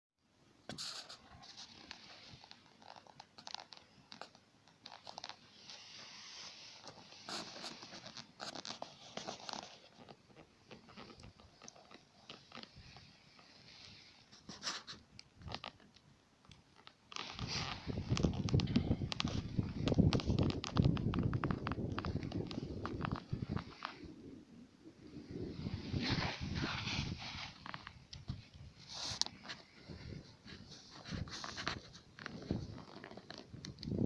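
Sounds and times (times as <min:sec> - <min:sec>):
campfire crackling: 0:01.4 - 0:34.0.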